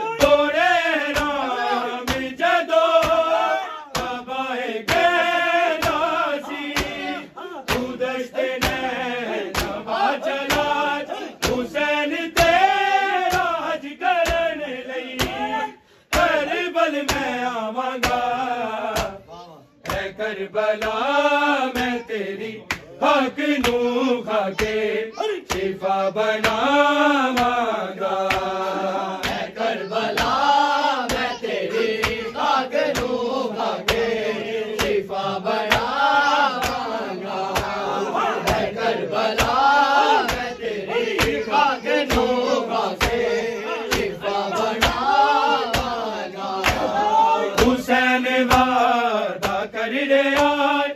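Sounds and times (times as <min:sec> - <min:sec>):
rhythmic chest beating: 0:00.0 - 0:50.8
men chanting a lament: 0:00.0 - 0:50.9.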